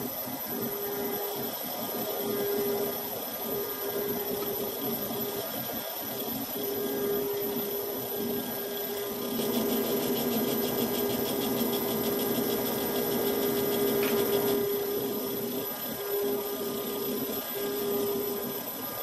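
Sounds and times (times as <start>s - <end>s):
lathe humming: 0.5s - 19.0s.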